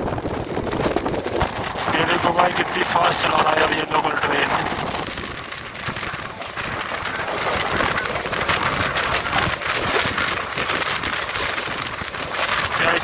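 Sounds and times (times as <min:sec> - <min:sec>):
train wheels clattering on track: 0:00.0 - 0:13.0
wind rushing over microphone: 0:00.0 - 0:13.0.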